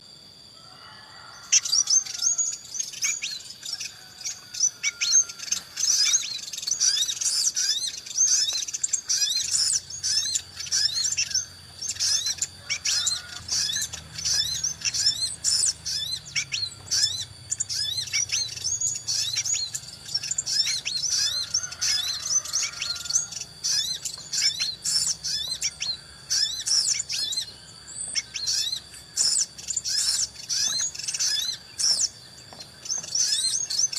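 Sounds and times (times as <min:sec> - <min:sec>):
steady high ringing tone: 0:00.0 - 0:33.9
small birds chirping: 0:01.1 - 0:33.9.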